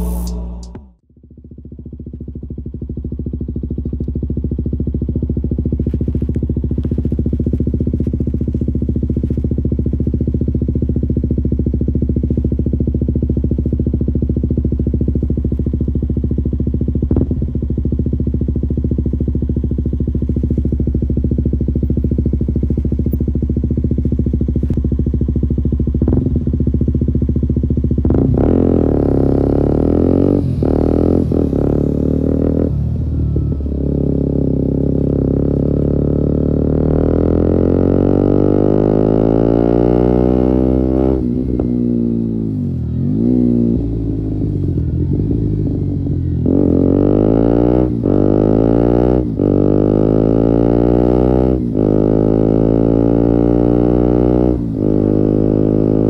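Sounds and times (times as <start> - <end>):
motorcycle engine idling: 0.0 - 39.0, 40.1 - 50.0
motorcycle revving and pulling away: 0.0 - 56.0.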